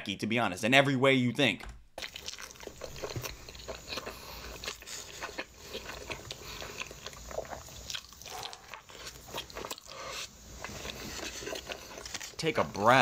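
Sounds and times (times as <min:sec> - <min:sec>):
person chewing food: 0:02.0 - 0:13.0.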